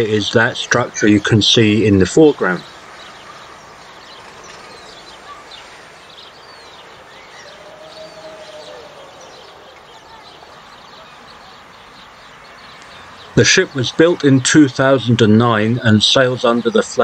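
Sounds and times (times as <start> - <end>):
low bird call: 0.0 - 15.6
bird chirps: 0.0 - 17.0
outdoor background noise: 0.0 - 17.0.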